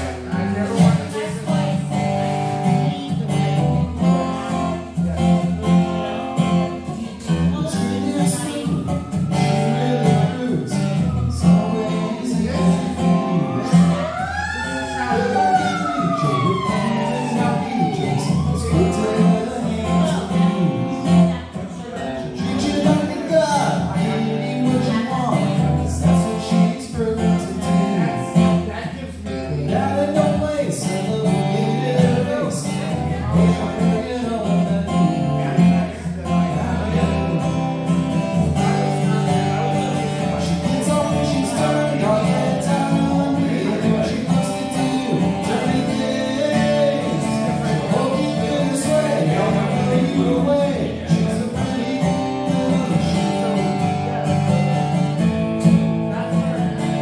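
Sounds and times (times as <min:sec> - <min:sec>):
acoustic guitar: 0:00.0 - 0:57.0
man singing: 0:00.0 - 0:57.0.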